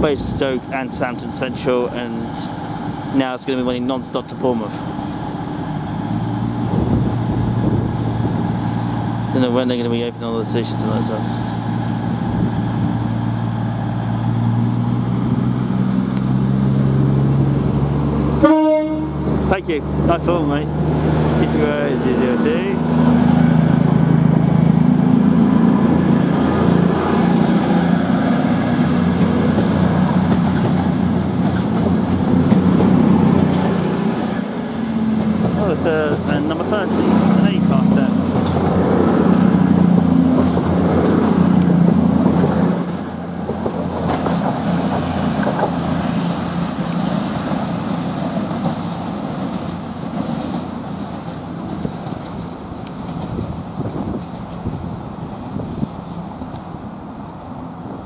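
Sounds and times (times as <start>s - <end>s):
diesel train engines droning: 0.0s - 58.0s.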